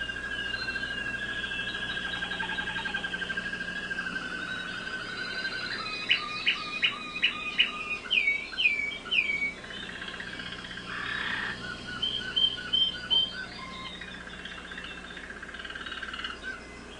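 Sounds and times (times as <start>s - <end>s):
canary singing trills: 0.0s - 16.9s.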